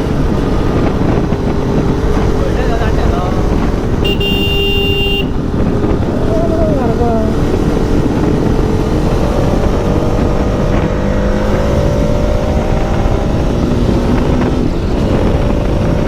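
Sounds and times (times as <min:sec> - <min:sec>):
motorcycle engine accelerating: 0:00.0 - 0:16.0
wind rumble on microphone: 0:00.0 - 0:16.0.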